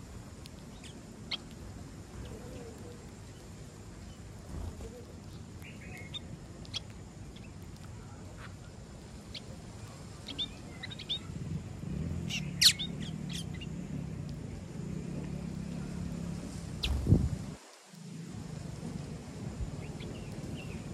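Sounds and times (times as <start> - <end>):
small birds chirping: 0.0 - 17.5, 19.6 - 20.9.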